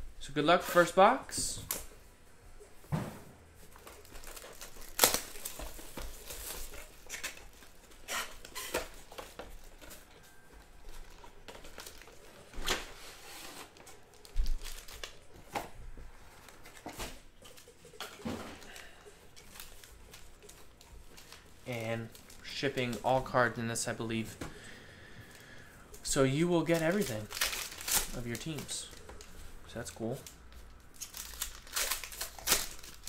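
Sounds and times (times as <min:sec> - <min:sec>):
plastic shrink wrap crinkling: 0:03.6 - 0:15.4, 0:16.2 - 0:24.3, 0:25.2 - 0:33.0
foil card packs handled: 0:03.6 - 0:15.6, 0:16.2 - 0:33.0.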